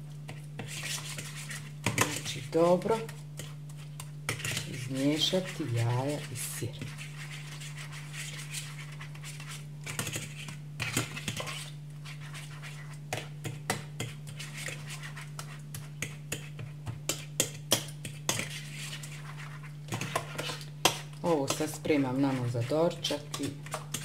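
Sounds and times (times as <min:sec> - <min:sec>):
fork beating eggs in ceramic bowl: 0:00.0 - 0:24.0
steady low hum: 0:00.0 - 0:24.0.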